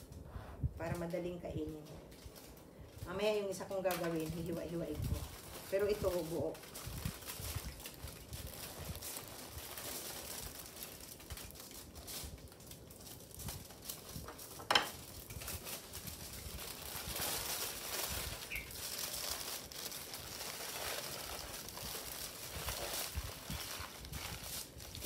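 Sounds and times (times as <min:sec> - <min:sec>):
aluminium foil crinkling: 0:00.9 - 0:25.0.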